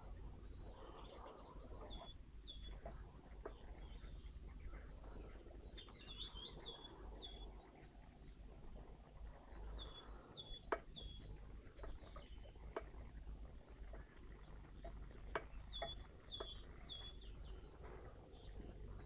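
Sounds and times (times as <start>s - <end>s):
small songbird calling: 0.0s - 19.0s.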